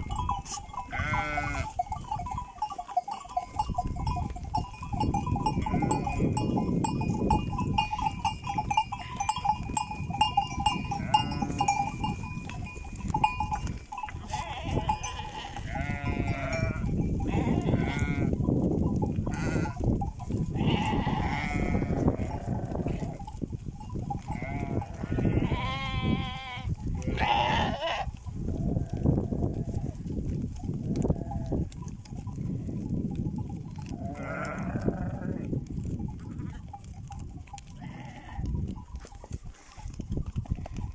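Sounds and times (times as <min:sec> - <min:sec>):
animals bleating: 0:00.0 - 0:18.5, 0:19.2 - 0:23.4, 0:24.1 - 0:30.2, 0:30.8 - 0:32.9, 0:33.8 - 0:39.7
livestock bells clanking: 0:00.0 - 0:28.9, 0:30.4 - 0:40.9
rustle of flock moving: 0:00.0 - 0:40.9.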